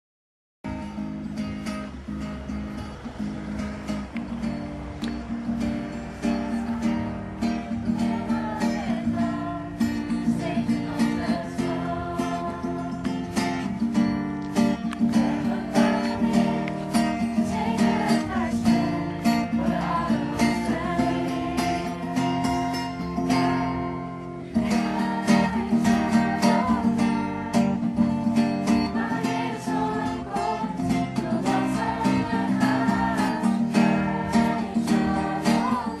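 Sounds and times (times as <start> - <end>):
acoustic guitar strumming: 0.7 - 36.0
voices singing along: 6.0 - 36.0.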